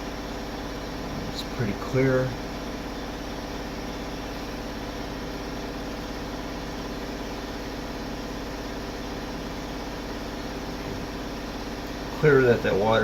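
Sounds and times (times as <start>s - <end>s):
machine hum with hiss: 0.0s - 13.0s.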